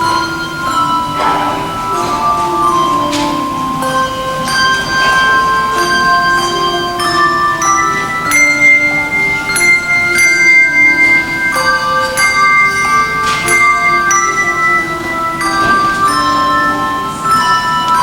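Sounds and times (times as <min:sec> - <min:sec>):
handbell choir playing: 0:00.0 - 0:18.0.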